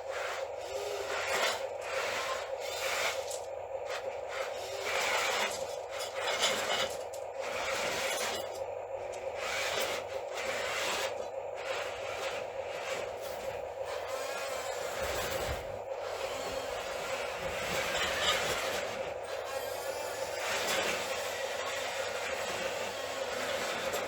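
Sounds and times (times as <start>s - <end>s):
motor whine: 0.0s - 24.0s
scraping and rasping: 0.0s - 24.0s.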